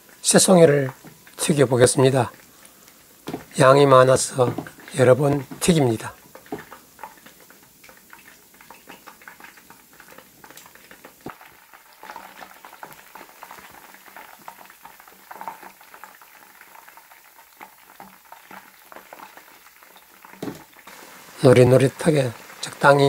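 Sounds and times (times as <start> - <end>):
deep-frying sizzle: 0.0 - 23.0.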